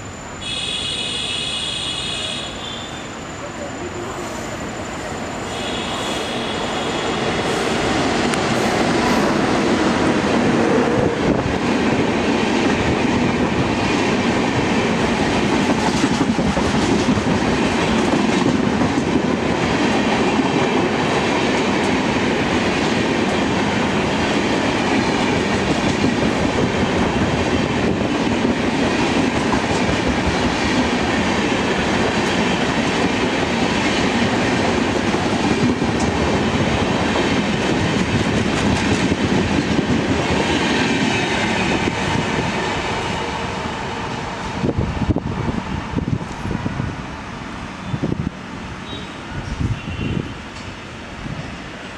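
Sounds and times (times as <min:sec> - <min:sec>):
train wheels rushing on rail: 0:00.0 - 0:51.9.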